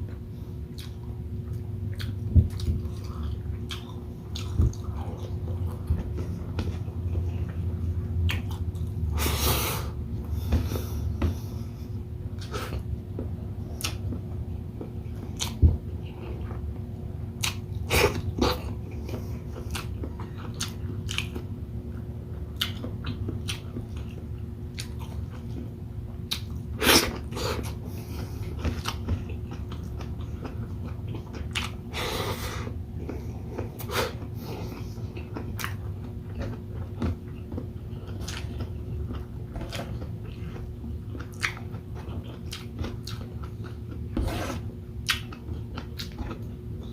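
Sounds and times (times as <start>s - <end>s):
chewing and biting food: 0.0s - 9.0s, 10.4s - 46.9s.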